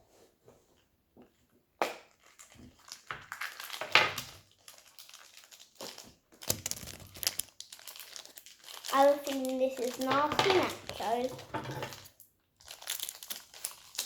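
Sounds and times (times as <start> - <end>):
packaging crinkling and rustling: 2.0 - 14.0.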